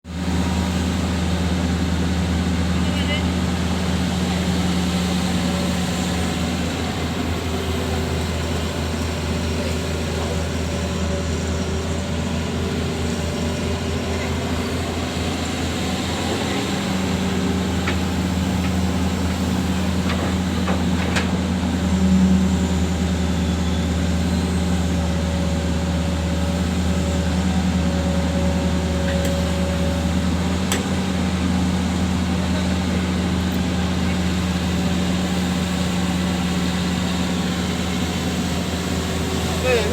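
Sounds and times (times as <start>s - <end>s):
excavator diesel engine humming: 0.1s - 39.9s.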